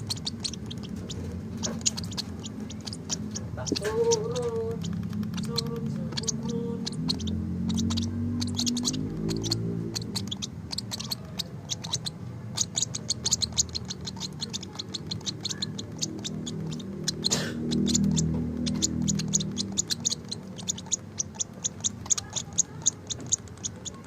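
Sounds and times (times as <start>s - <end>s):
baby bird chirping: 0.0s - 24.0s.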